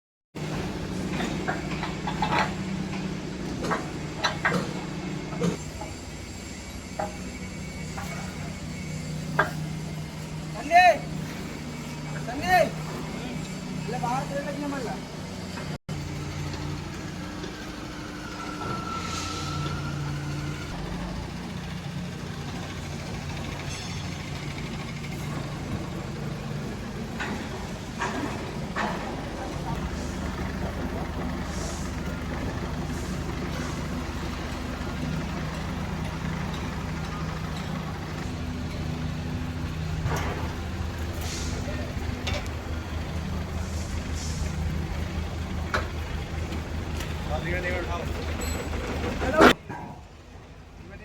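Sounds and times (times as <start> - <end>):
heavy vehicle engine idling: 0.4 - 51.0.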